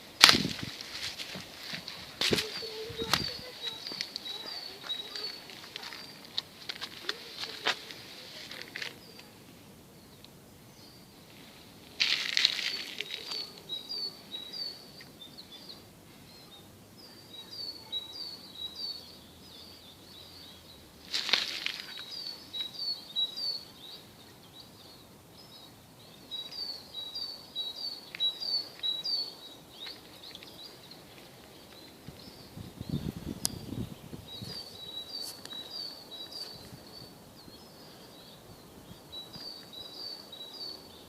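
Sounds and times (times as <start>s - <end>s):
faint steady hiss: 0.0s - 41.0s
songbird singing: 0.0s - 41.0s.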